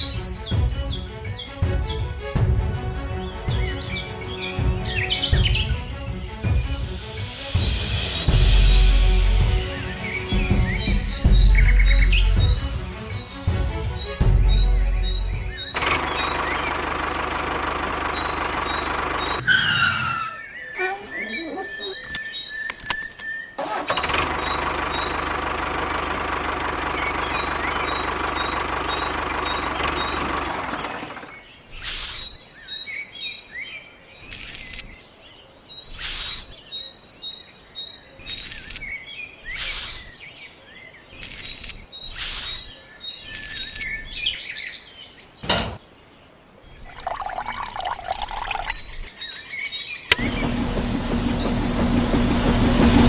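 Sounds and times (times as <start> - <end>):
small birds chirping: 0.0 - 7.4, 9.7 - 53.0.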